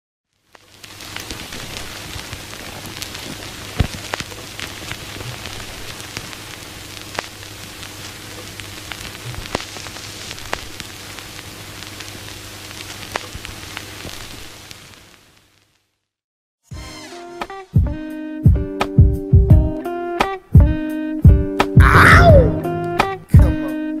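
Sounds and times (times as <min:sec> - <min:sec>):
crackling hiss with pops and clicks: 0:00.3 - 0:16.2, 0:18.4 - 0:24.0.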